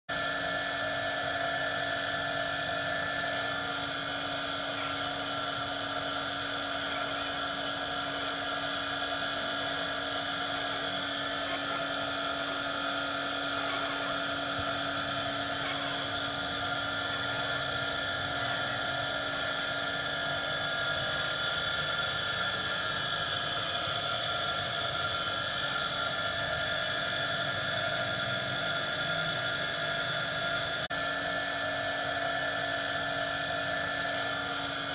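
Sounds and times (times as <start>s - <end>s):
machine drone with whine: 0.1s - 34.9s.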